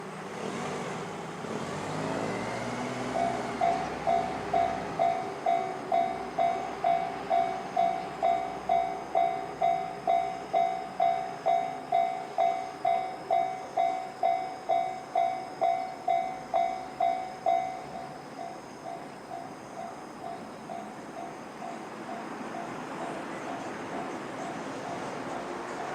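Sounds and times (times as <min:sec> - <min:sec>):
level crossing warning bell: 0:02.1 - 0:25.6.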